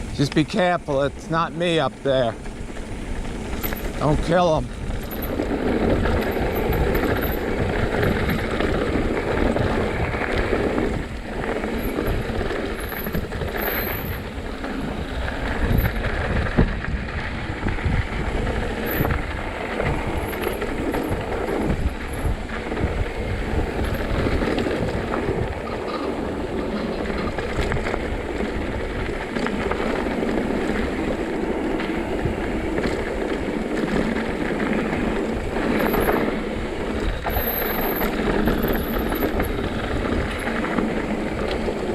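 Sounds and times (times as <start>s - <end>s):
bike rattling over bumps: 0.0s - 41.9s
bike tyres rumbling on dirt: 0.0s - 41.9s
wind buffeting microphone: 0.0s - 41.9s.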